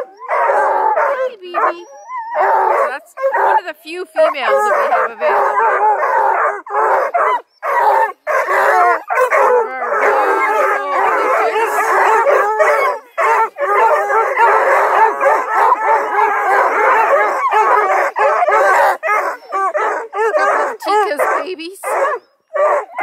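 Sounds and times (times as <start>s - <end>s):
dogs baying and howling: 0.0s - 23.0s.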